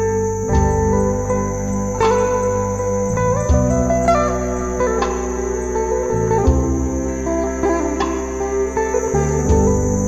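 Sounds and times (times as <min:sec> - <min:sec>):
plucked guitar notes: 0:00.0 - 0:10.0
sustained bass and pad: 0:00.0 - 0:10.0.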